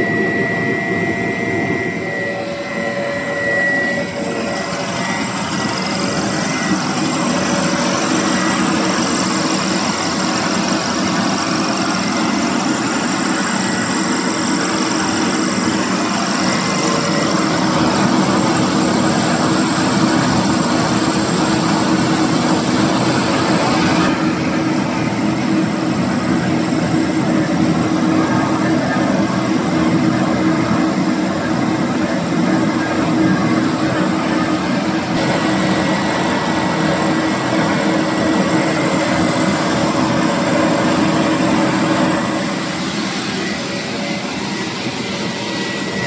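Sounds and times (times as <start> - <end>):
machinery hum and drone: 0.0 - 46.0.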